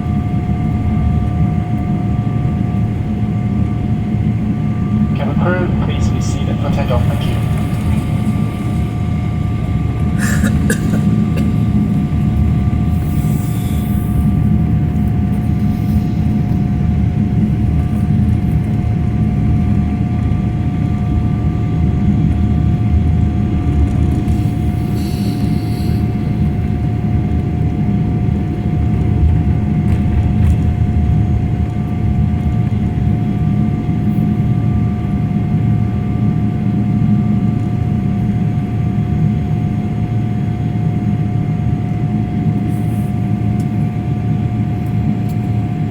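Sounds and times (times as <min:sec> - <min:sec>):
jet engines and airflow in cabin: 0:00.0 - 0:45.9.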